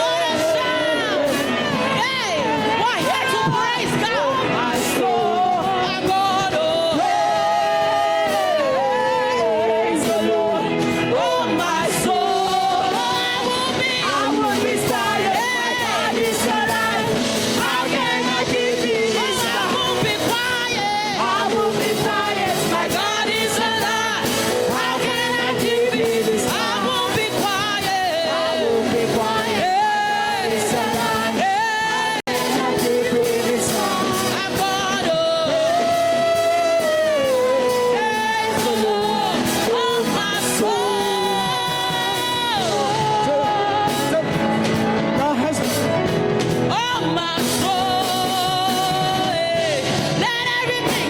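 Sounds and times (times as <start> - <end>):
musical accompaniment: 0.0 - 51.0
person singing gospel: 0.0 - 51.0.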